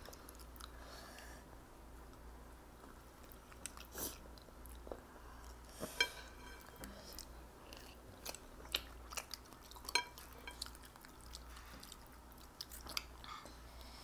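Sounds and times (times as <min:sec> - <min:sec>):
children chewing: 0:00.0 - 0:01.4, 0:02.8 - 0:14.0.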